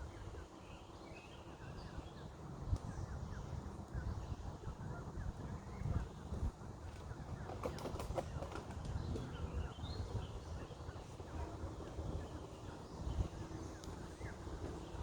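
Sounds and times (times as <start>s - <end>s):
faint birds chirping: 0.0s - 15.0s
wind rumbling on microphone: 1.6s - 15.0s.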